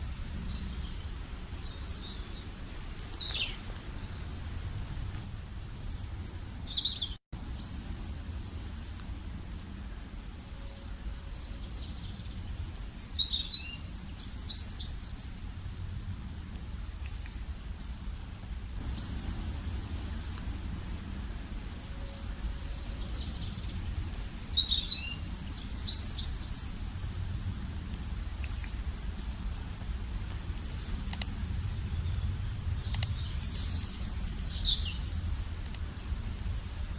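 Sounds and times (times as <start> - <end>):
small birds chirping: 0.0 - 4.5, 5.1 - 15.6, 17.0 - 18.0, 18.8 - 36.9
steady low rumble: 0.0 - 6.6, 7.4 - 36.9.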